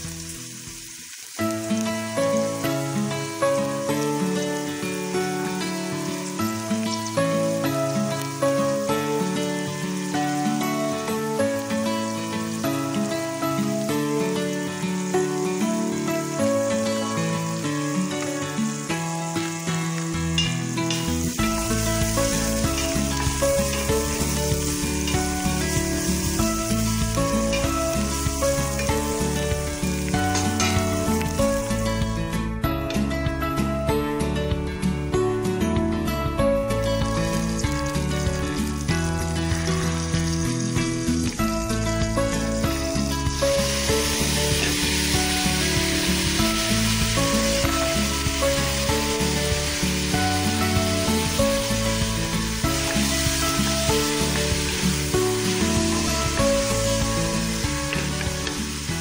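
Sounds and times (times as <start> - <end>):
onions sizzling in oil: 0.0 - 34.9, 36.3 - 59.0
background music: 0.0 - 59.0.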